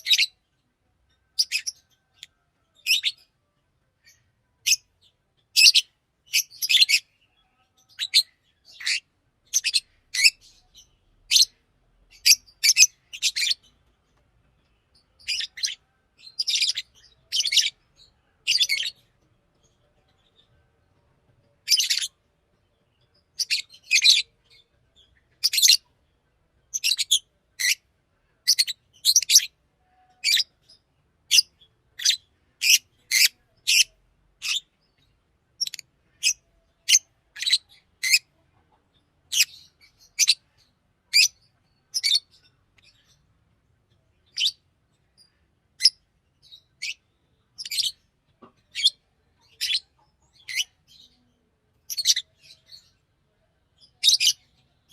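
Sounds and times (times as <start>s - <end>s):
lovebird chirping: 0.0s - 0.5s, 1.1s - 3.3s, 4.0s - 13.8s, 14.6s - 20.7s, 21.6s - 25.9s, 26.6s - 27.8s, 28.4s - 43.2s, 44.2s - 54.9s.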